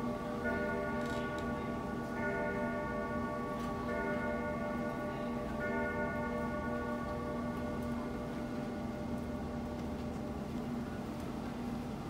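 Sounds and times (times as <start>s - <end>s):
grandfather clock striking: 0.0s - 10.0s.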